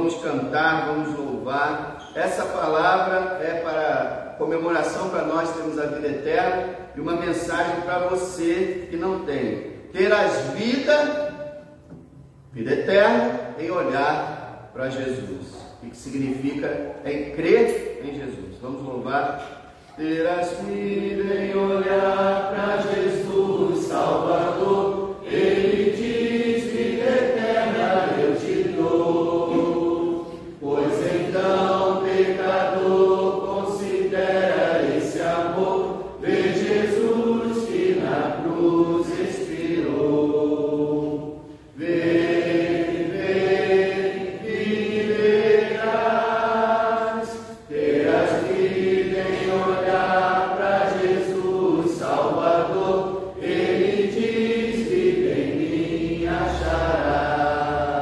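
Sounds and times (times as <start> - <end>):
congregation singing a hymn: 0.0 - 12.1, 15.9 - 58.0.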